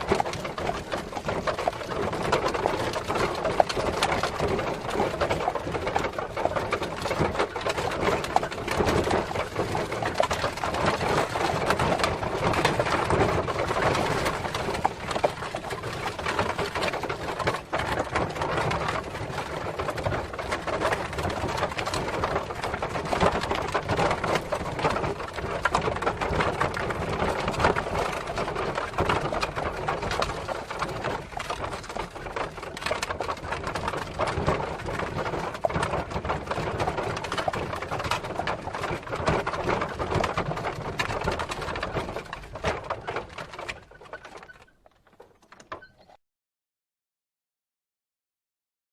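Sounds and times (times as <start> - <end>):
cart rattling: 0.0 - 46.2
hooves clip-clopping: 0.0 - 46.2.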